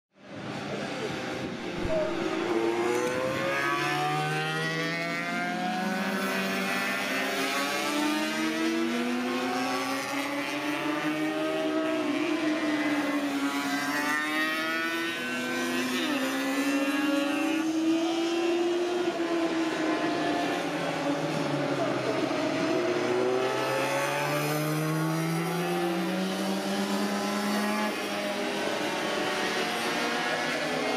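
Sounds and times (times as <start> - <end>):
racing motorcycles passing: 0.3 - 30.9.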